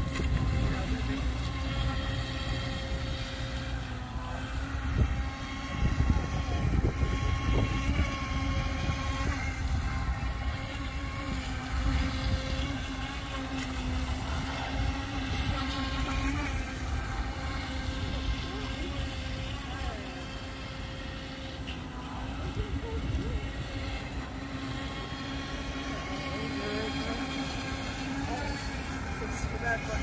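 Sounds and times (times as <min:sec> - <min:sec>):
wind on microphone: 0:00.0 - 0:21.5, 0:22.1 - 0:30.0
model speedboat motor whine: 0:00.0 - 0:30.0.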